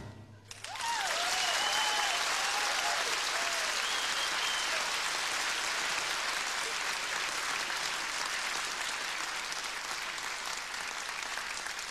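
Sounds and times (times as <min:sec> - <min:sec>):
audience applauding: 0:00.5 - 0:11.9.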